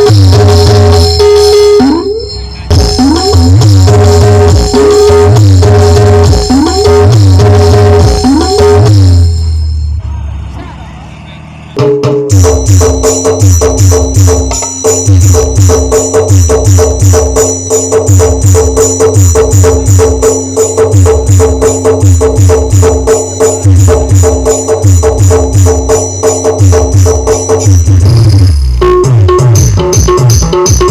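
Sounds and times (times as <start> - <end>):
fast heavy drum beat: 2.7 - 9.3, 11.8 - 30.9.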